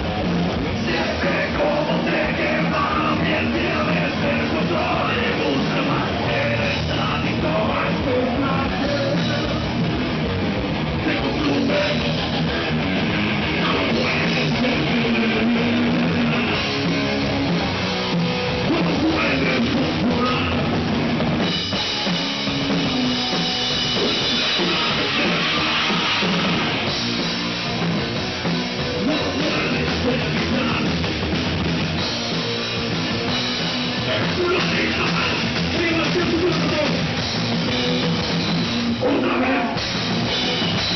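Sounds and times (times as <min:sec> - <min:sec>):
drum kit with cymbals: 0:00.0 - 0:40.9
electric guitar: 0:00.0 - 0:40.9.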